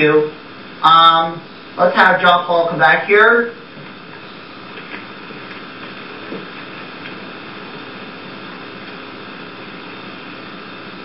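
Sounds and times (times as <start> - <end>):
tape hiss with faint hum: 0.0 - 11.0.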